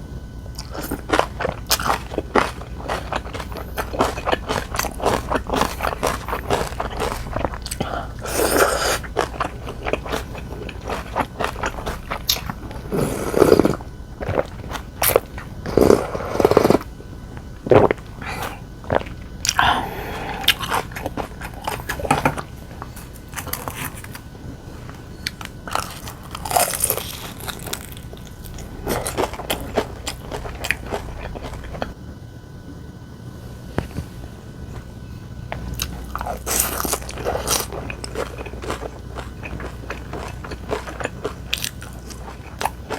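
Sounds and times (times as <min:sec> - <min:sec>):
crunchy bites and chewing: 0:00.2 - 0:32.0, 0:35.6 - 0:42.9.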